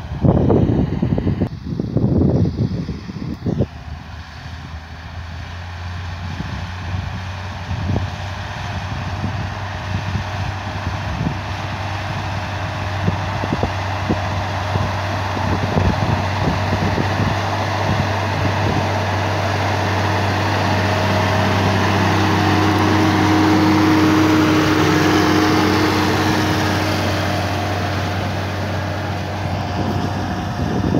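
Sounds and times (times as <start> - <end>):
wind buffeting microphone: 0.0 - 4.9, 6.0 - 30.9
tractor diesel engine under load: 0.0 - 30.9.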